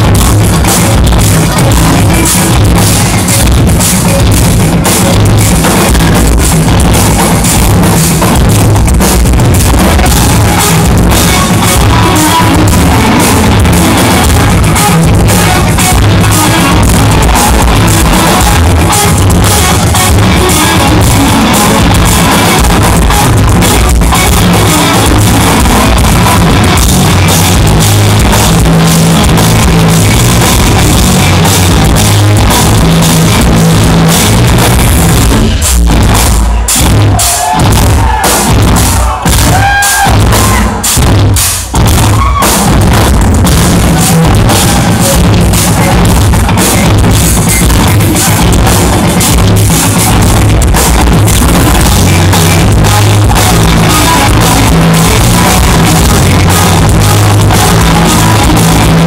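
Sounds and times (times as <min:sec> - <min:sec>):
live progressive metal band: 0:00.0 - 0:59.0.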